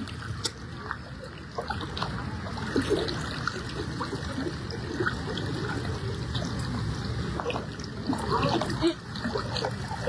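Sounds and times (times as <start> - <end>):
floodwater flowing: 0.0 - 10.0
small water splashes: 0.0 - 10.0.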